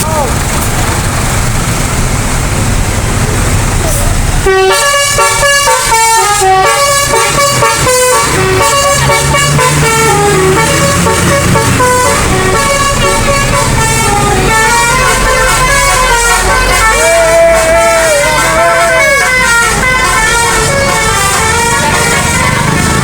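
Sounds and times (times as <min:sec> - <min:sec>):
bus engine running: 0:00.0 - 0:23.0
musical bus air horn: 0:03.9 - 0:23.0.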